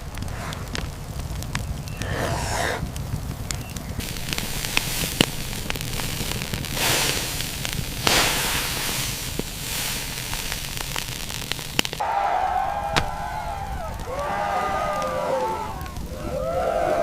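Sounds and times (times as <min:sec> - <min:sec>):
sharp crackles and snaps: 0:00.0 - 0:17.0
steady hiss and low rumble: 0:00.0 - 0:17.0.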